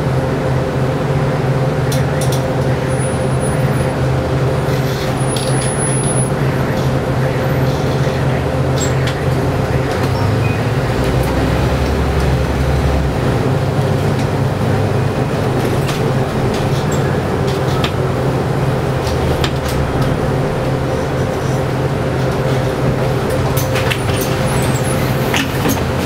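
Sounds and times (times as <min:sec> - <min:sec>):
bus engine humming: 0:00.0 - 0:26.0.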